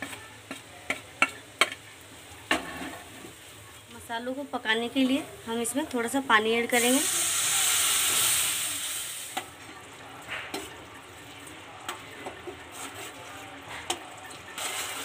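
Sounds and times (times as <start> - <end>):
water sizzling in hot oil: 0.0 - 15.0.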